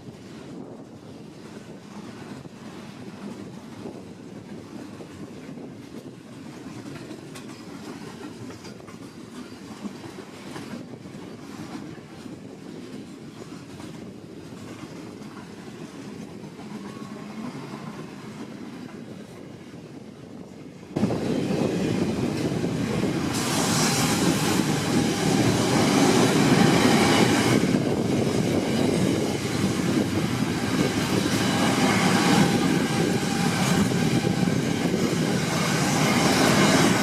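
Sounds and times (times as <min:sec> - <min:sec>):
train wheels clicking over rail joints: 0:00.1 - 0:37.0.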